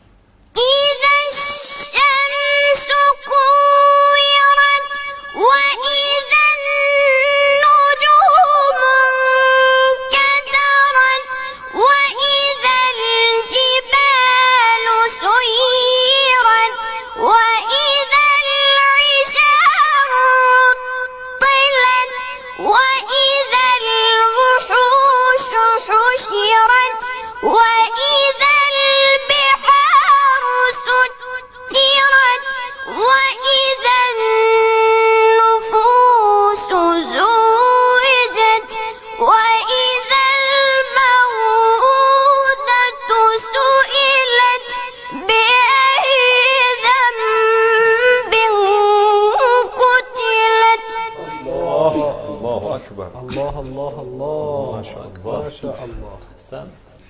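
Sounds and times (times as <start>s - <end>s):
child chanting recitation: 0.6s - 56.0s.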